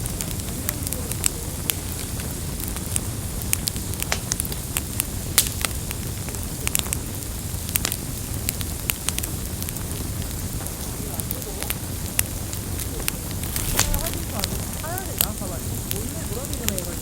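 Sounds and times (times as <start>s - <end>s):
campfire crackling and popping: 0.0s - 17.0s
low rumble: 0.0s - 17.0s.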